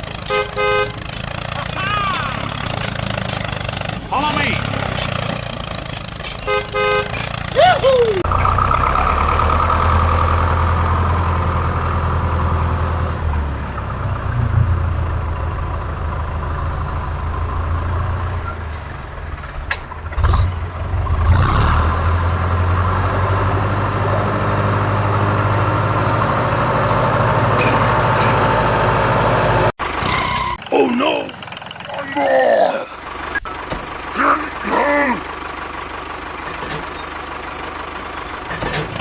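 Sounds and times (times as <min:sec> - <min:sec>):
engine humming: 0:00.0 - 0:39.0.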